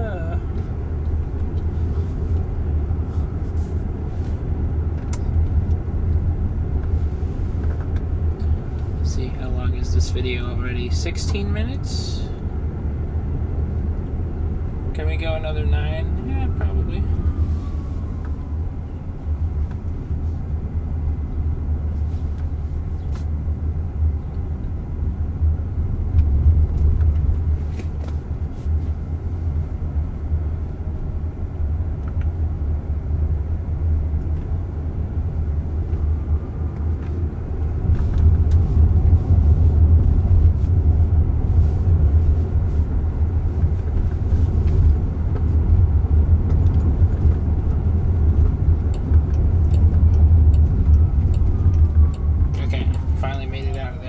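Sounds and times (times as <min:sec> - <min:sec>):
road and tyre rumble in car: 0:00.0 - 0:54.0.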